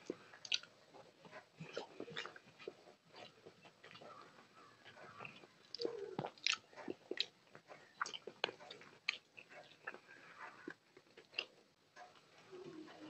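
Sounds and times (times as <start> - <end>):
chewing crisp fried food: 0.0 - 13.0.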